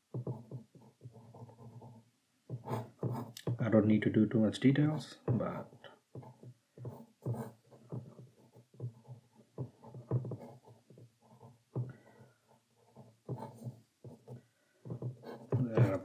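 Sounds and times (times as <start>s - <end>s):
pencil scratching on paper: 0.1s - 3.6s, 5.4s - 16.0s.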